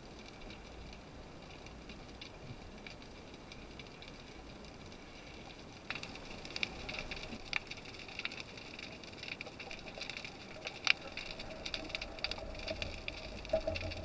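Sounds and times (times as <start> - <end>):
faint steady hiss: 0.0 - 14.0
underwater crackling and clicks: 0.0 - 14.0.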